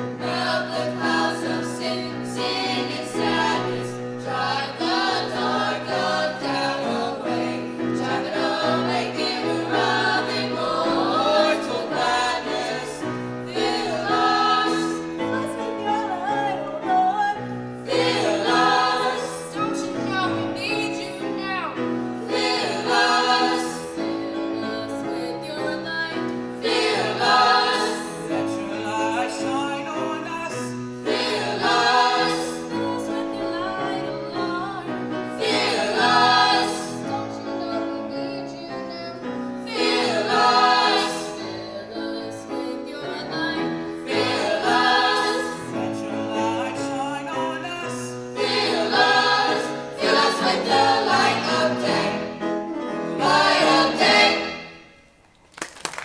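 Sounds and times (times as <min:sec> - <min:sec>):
choir singing: 0:00.0 - 0:55.2.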